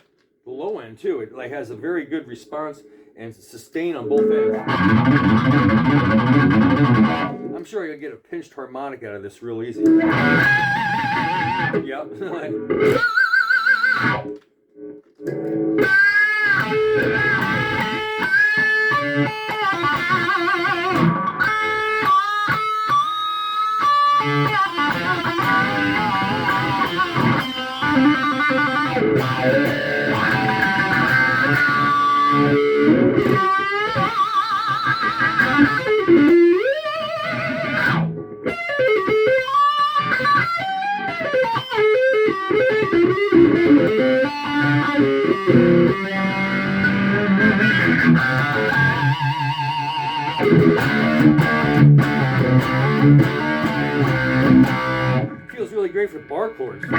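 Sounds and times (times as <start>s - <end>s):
distorted electric guitar lead: 4.0s - 7.6s, 9.8s - 56.9s.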